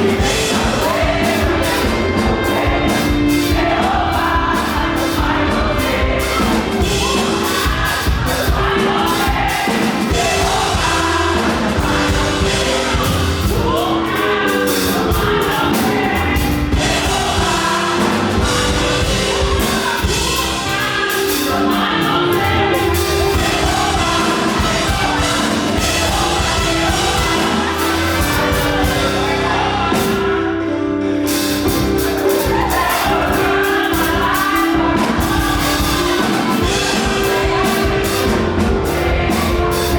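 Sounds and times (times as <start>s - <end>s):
band with drums: 0.0s - 30.4s, 31.3s - 39.9s
group of singers: 0.0s - 39.9s.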